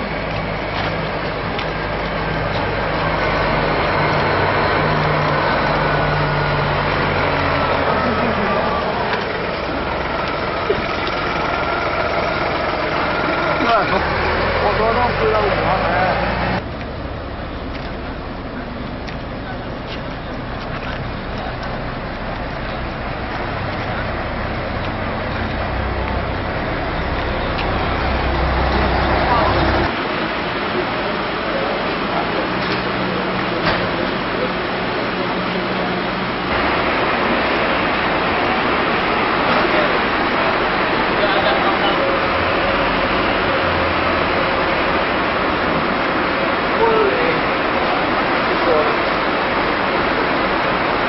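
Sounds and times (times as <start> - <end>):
bus engine driving past: 0.0 - 51.0.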